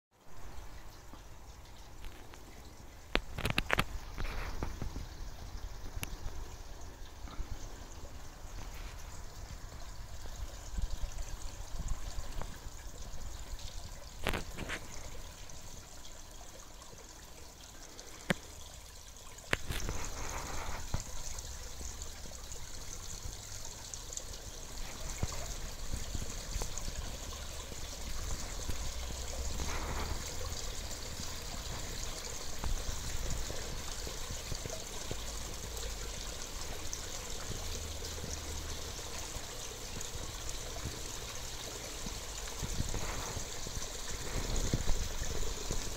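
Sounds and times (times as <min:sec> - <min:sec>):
water splashing into pond: 0:00.2 - 0:45.9.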